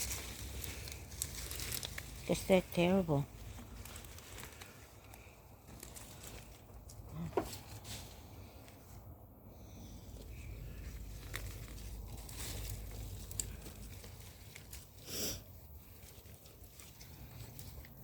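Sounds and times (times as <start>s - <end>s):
hands rustling through soil: 0.0s - 18.0s.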